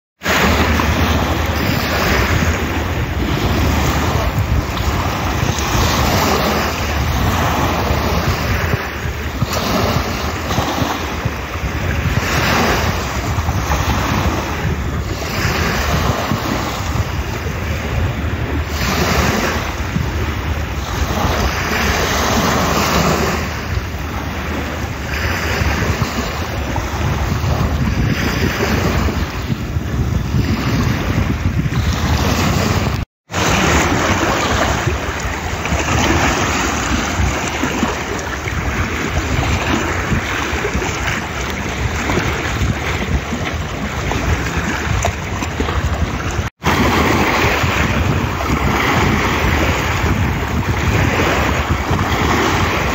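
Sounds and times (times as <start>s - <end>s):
waves washing onto pebble shore: 0.2s - 29.7s, 30.3s - 52.9s
wind on microphone: 0.2s - 52.9s.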